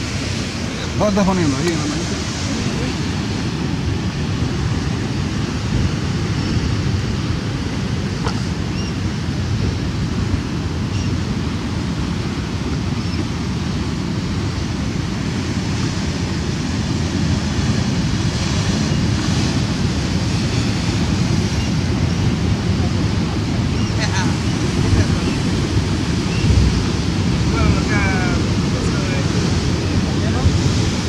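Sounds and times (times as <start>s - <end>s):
surf washing against rocks: 0.0s - 31.0s
wind rumbling on microphone: 0.0s - 31.0s.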